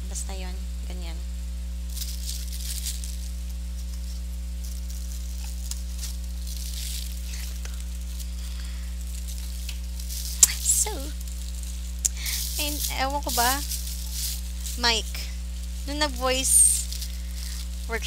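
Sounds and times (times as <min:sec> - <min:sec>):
low electrical hum: 0:00.0 - 0:18.0
plastic bags crinkling: 0:01.9 - 0:18.0.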